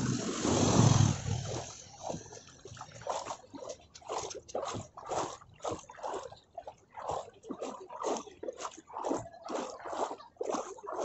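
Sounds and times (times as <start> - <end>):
footsteps wading through water: 0.0 - 11.0.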